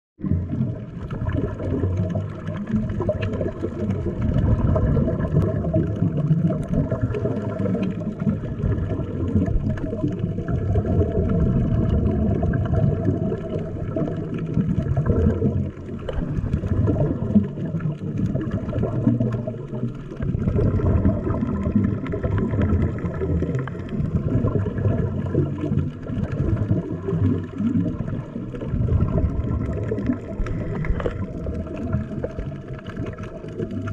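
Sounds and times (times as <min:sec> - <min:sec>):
bubbles gurgling underwater: 0:00.2 - 0:33.9
muffled underwater rumble: 0:00.2 - 0:33.9.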